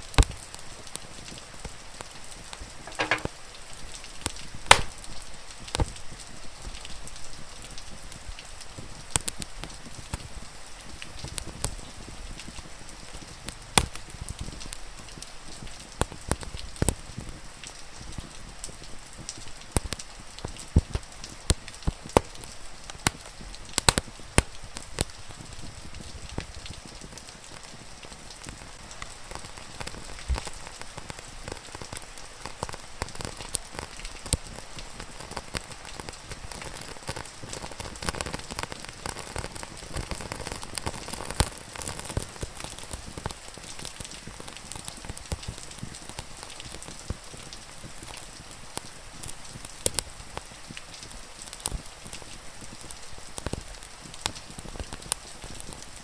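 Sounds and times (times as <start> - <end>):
fire crackling and popping: 0.0 - 56.0
steady rain: 0.0 - 56.0.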